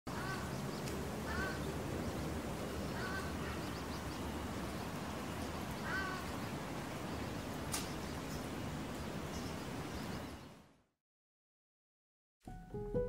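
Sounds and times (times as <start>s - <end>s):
outdoor background hiss: 0.1s - 10.9s.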